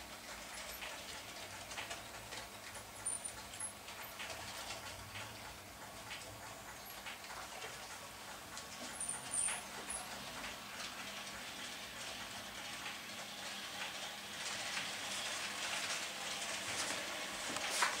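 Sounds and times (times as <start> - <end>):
model train wheels clicking on track: 0.0 - 18.0.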